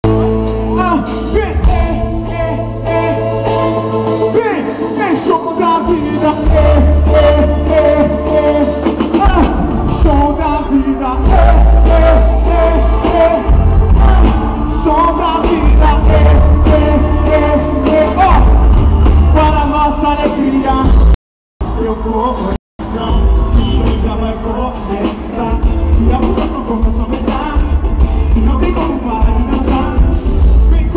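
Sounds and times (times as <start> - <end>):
heavy bass line: 0.0 - 30.9
live band playing rock: 0.0 - 30.9.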